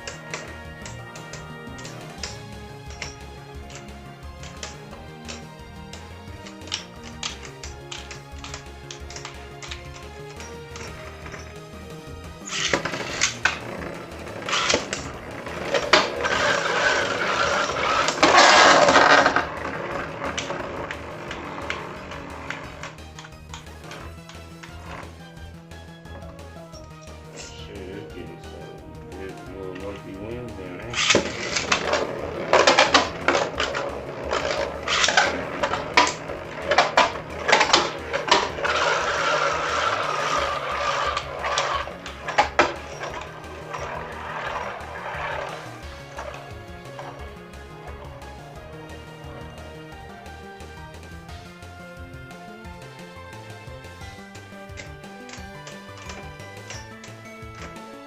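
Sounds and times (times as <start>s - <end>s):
spinning tops grinding rattle: 0.0s - 27.6s, 30.7s - 52.1s, 53.6s - 58.0s
spinning tops clicking: 0.0s - 58.0s.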